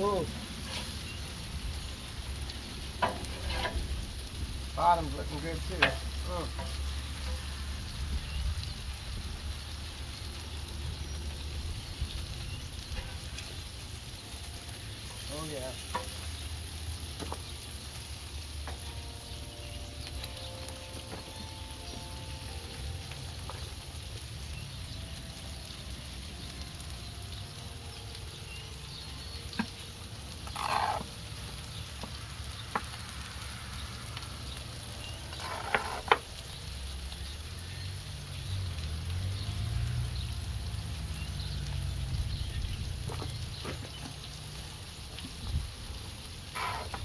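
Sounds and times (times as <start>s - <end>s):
burger patty sizzling: 0.0s - 47.0s.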